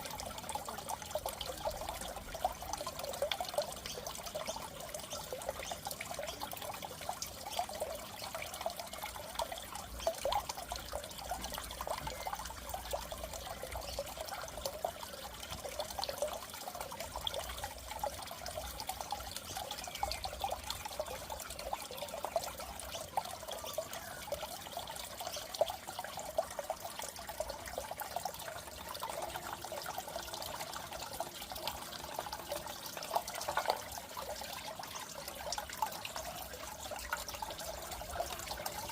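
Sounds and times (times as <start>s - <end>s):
aquarium water trickling and bubbling: 0.0s - 38.9s.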